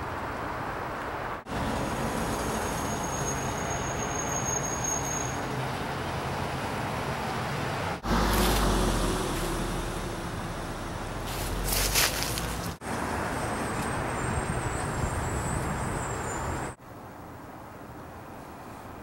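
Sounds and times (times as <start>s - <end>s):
cars going by: 0.0s - 19.0s
car passing close: 1.3s - 16.8s.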